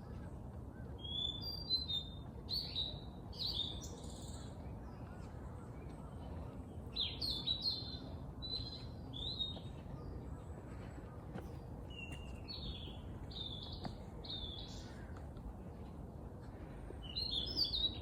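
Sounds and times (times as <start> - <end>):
low background noise: 0.0 - 18.0
songbirds chirping: 0.0 - 18.0.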